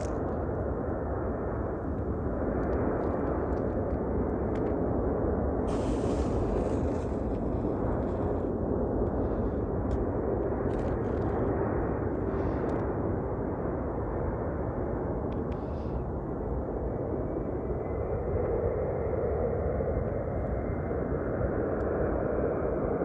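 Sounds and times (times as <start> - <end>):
jet airliner engines rumbling: 0.0 - 23.0.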